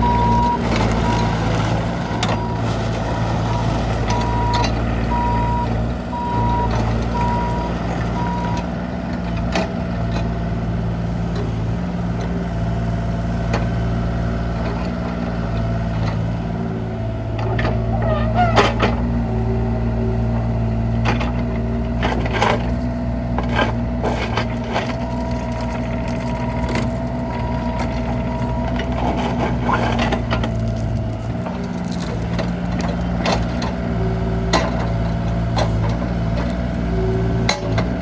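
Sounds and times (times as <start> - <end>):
excavator diesel engine drone: 0.0 - 38.0.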